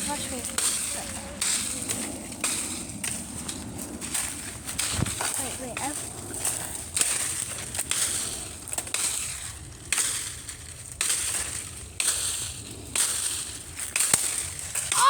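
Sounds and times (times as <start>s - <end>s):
sticks and leaves crunching: 0.0s - 15.0s.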